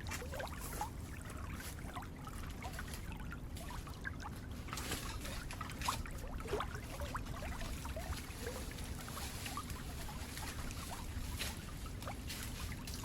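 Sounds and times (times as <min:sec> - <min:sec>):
steady low rumble: 0:00.0 - 0:13.0
water trickling and bubbling: 0:00.0 - 0:13.0.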